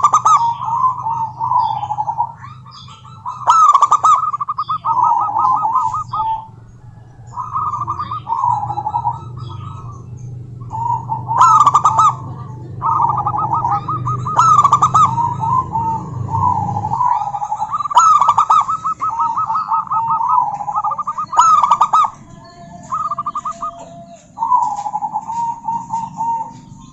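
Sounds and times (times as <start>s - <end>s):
dove cooing: 0.0s - 26.9s
low hum: 0.0s - 26.9s.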